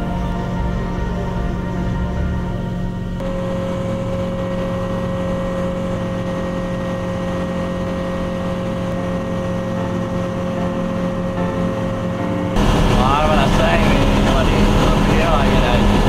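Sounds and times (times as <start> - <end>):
aircraft engine and propeller droning: 0.0 - 16.0.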